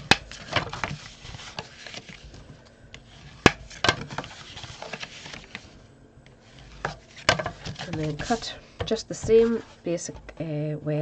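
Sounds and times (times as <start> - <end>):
card stock folding and rubbing: 0.0 - 8.6, 9.2 - 9.9.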